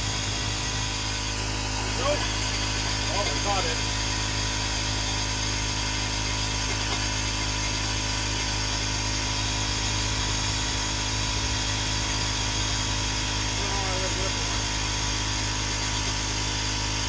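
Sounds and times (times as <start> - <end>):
compressor hum: 0.0 - 17.0.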